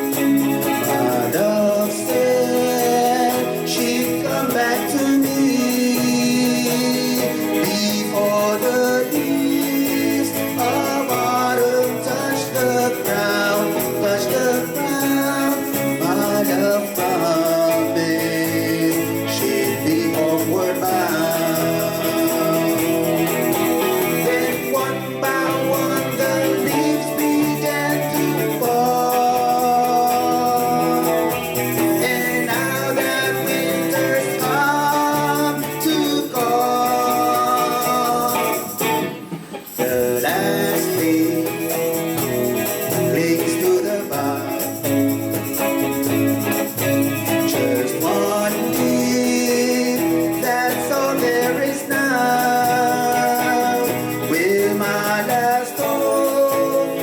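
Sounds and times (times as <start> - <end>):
lead guitar melody: 0.0 - 57.0
live band playing slow ballad: 0.0 - 57.0.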